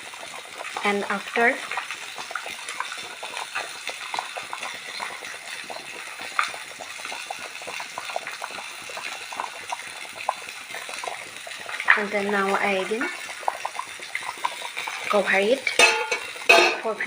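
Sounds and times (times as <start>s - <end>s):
water boiling in a pan: 0.0s - 17.0s.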